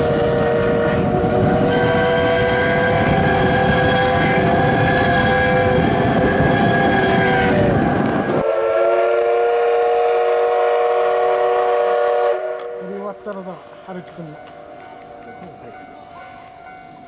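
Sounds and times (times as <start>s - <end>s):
steam locomotive whistle blowing: 0.0s - 13.9s
rush of steam and running noise: 0.0s - 14.2s.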